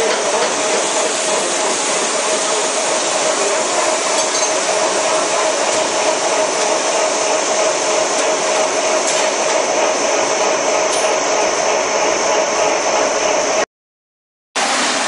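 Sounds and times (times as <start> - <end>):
machinery whirring and humming: 0.0 - 13.7.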